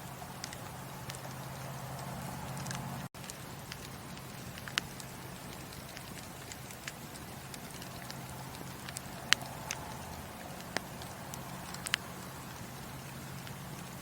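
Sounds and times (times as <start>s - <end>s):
fire sharp pops: 0.0s - 14.0s
wood fire crackling and hissing: 0.0s - 14.0s.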